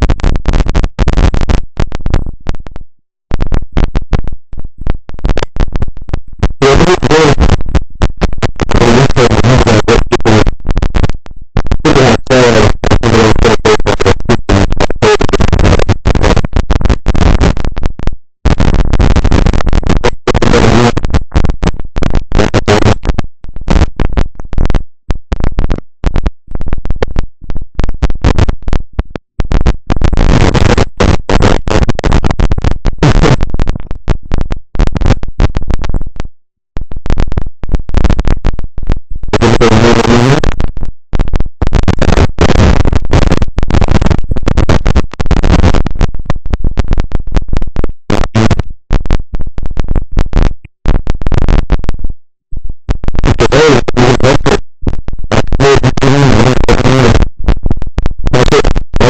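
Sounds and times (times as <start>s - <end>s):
microphone static crackling: 0.0s - 59.0s.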